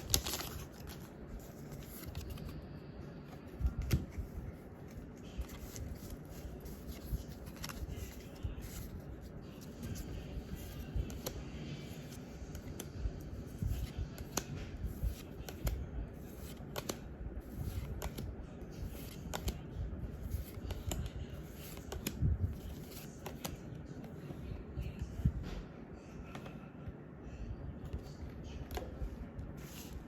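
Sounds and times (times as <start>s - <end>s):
cards rustling: 0.0s - 25.0s, 27.8s - 30.0s.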